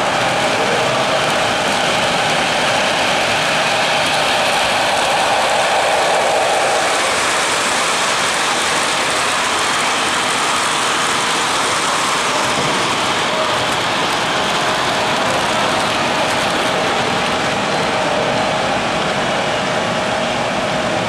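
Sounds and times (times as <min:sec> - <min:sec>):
model train wheels rattling: 0:00.0 - 0:18.3.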